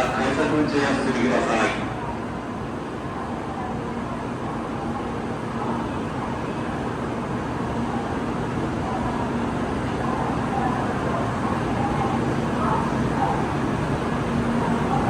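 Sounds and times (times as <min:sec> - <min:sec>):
low rumble of train: 0:00.0 - 0:15.0.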